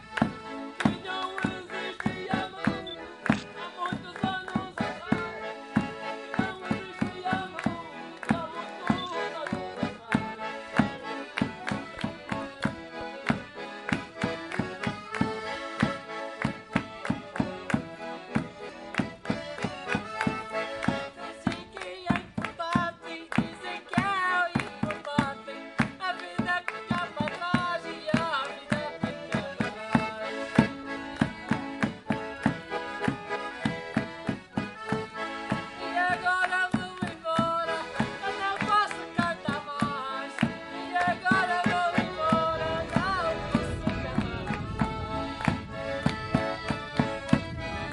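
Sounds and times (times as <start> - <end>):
accordions playing folk tune: 0.0 - 47.9.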